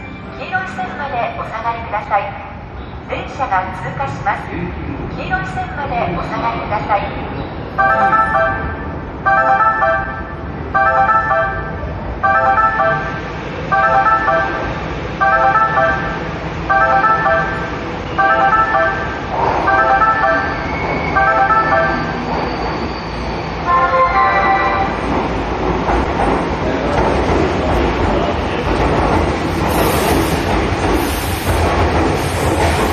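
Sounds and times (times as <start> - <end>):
low railway rumble: 0.0 - 32.9.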